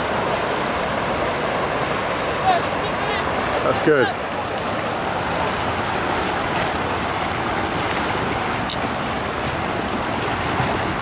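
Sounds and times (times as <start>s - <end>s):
whitewater rushing down a channel: 0.0s - 11.0s.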